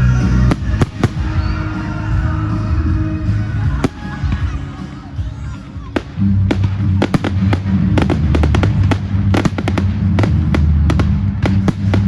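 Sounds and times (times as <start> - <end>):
loud music with heavy bass: 0.0 - 12.0
fireworks bangs: 0.2 - 2.4, 3.6 - 12.0.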